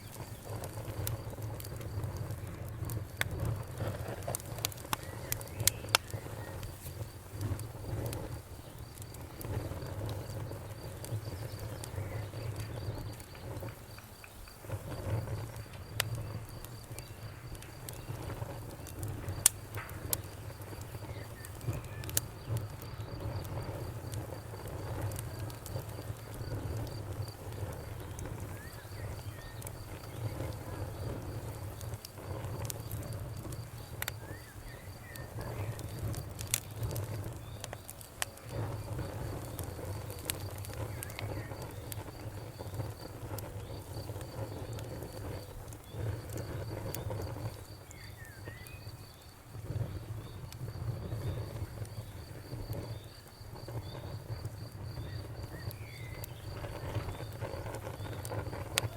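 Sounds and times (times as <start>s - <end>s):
campfire flames rumbling: 0.0s - 58.9s
fire crackling and popping: 0.0s - 58.9s.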